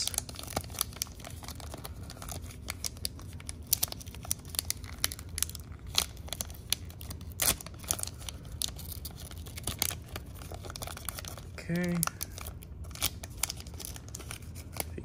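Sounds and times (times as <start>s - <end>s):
wrapper crinkling and tearing: 0.0s - 15.0s.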